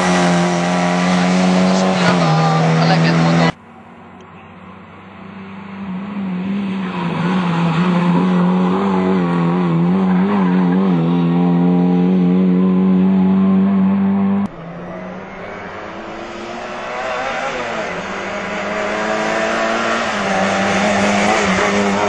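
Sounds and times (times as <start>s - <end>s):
rally car engine revving high: 0.0s - 3.6s, 5.3s - 22.0s.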